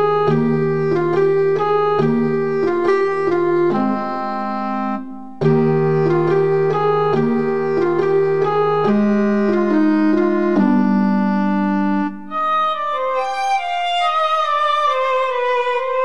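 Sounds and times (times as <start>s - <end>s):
instrumental music with sustained chords: 0.0s - 16.0s.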